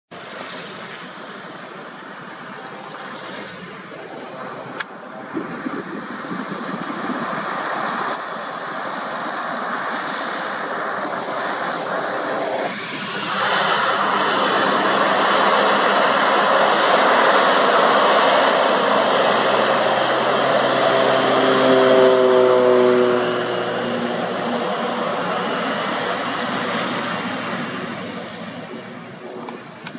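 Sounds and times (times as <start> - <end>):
propeller plane engine: 0.1 - 29.9.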